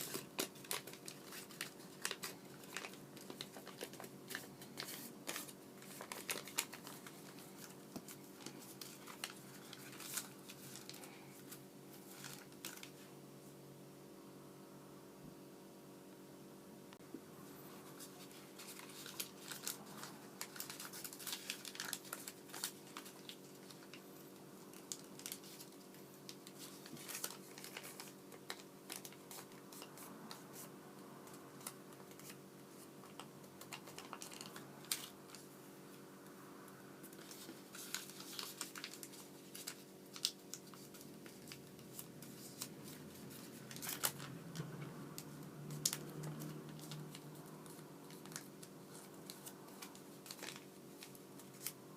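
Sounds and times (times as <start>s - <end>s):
paper crinkling and creasing: 0.0s - 13.1s, 17.8s - 35.5s, 37.0s - 51.9s
faint steady hum: 0.0s - 51.9s.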